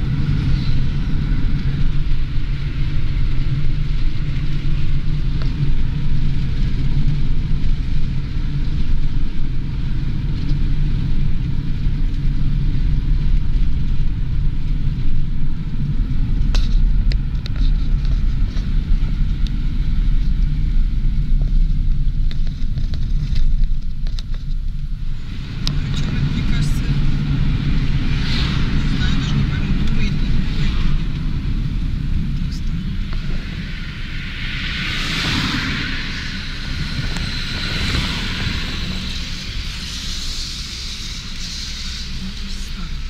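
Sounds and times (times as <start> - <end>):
engine and tyre rumble: 0.0 - 43.0.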